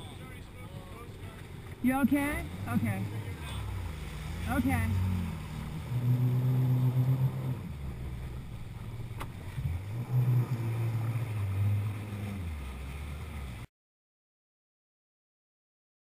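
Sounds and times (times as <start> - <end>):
jet ski engine humming: 0.0 - 13.7.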